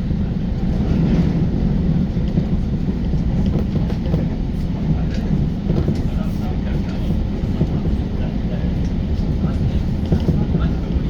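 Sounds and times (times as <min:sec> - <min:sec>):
train rumbling inside passenger car: 0:00.0 - 0:11.0.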